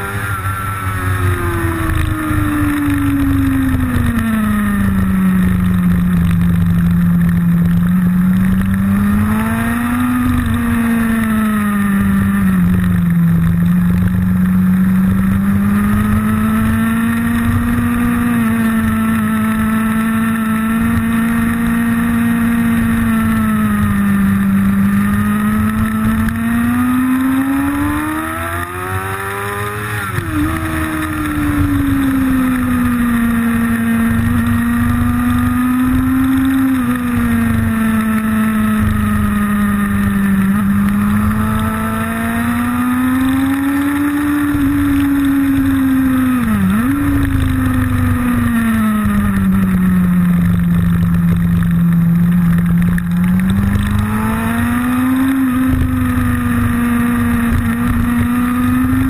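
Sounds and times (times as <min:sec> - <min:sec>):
motorcycle engine revving: 0:00.0 - 0:59.0
wind rumble on microphone: 0:00.0 - 0:59.0.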